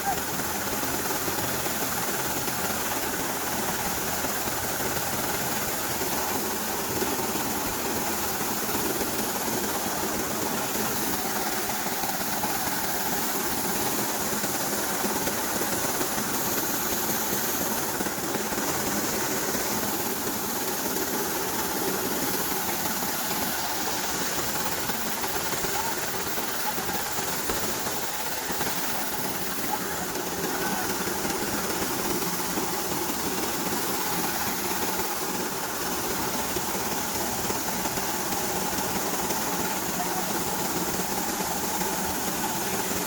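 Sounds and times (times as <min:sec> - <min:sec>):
corn thresher running: 0:00.0 - 0:43.0.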